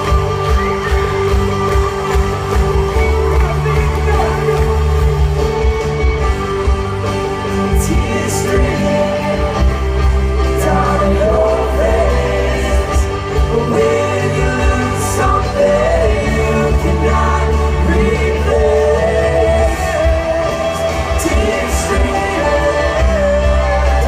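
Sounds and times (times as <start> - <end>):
pop music with sung melody: 0.0 - 24.0.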